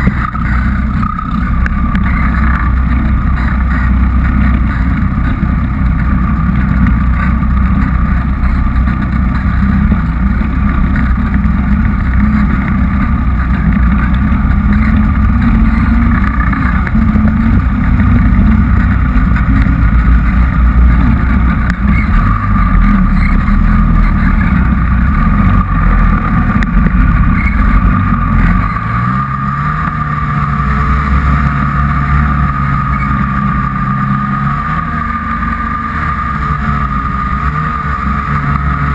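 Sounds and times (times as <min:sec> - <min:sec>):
high whine: 0:00.0 - 0:38.9
snowmobile engine running hard: 0:00.0 - 0:38.9.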